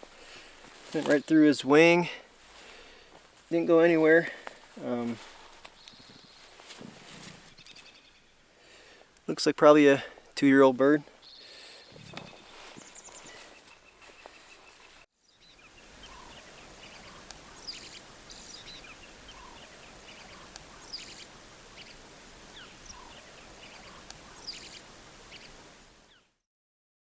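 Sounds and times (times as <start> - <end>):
steady background hiss: 0.0 - 11.3, 15.4 - 26.2
wild birds chirping: 0.0 - 26.4.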